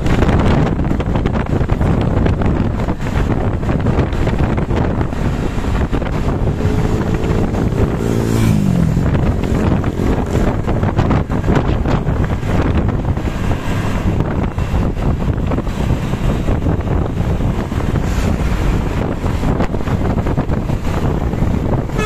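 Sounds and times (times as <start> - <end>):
passing vehicle hum: 0.0 - 22.0
road traffic noise: 0.0 - 22.0
wind buffeting microphone: 0.0 - 22.0.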